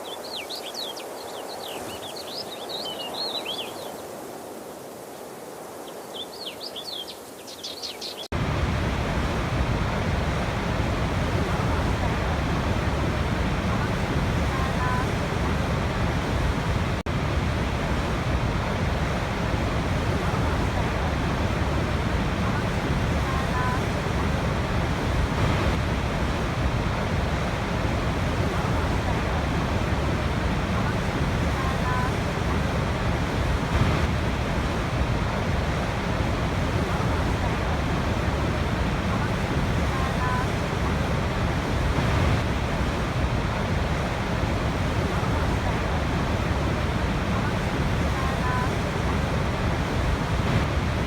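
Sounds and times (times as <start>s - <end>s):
waterfall rushing: 8.3s - 51.0s.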